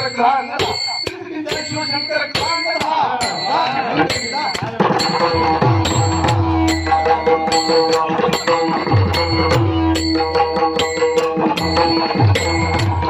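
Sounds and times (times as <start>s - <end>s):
steady held tones: 0.0s - 13.0s
drum strokes: 0.6s - 13.0s.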